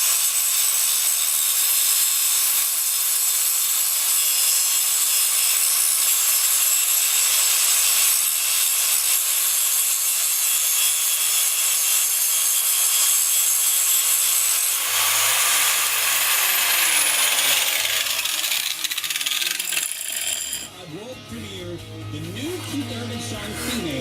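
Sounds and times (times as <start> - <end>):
power grinder grinding steel: 0.0 - 20.7, 22.2 - 24.0.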